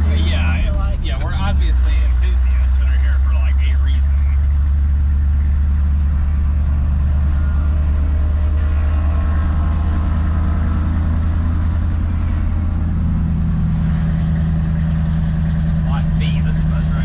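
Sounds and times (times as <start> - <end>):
pickup engine drone: 0.0 - 17.0.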